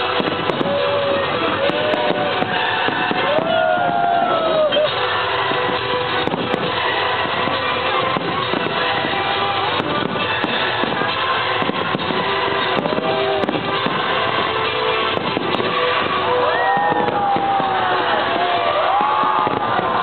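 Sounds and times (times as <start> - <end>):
music playing: 0.0 - 20.0.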